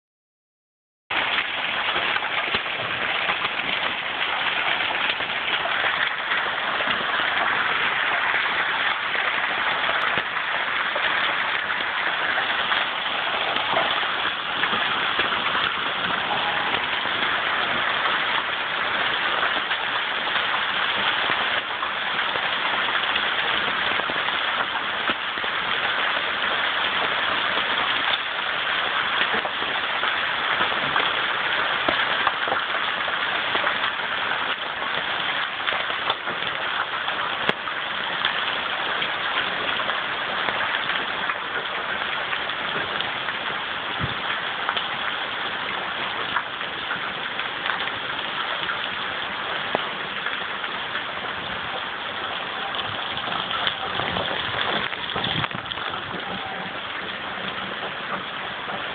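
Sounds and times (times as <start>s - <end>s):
heavy rain hissing: 1.1s - 58.9s
hailstones clicking: 1.2s - 58.9s.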